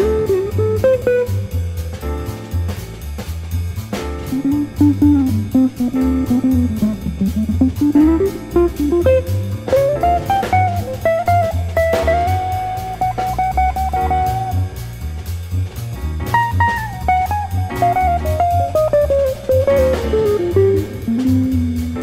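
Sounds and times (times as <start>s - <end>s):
electric guitar lead: 0.0s - 2.0s, 4.2s - 14.8s, 16.3s - 22.0s
bass guitar: 0.0s - 22.0s
drum kit: 0.0s - 22.0s.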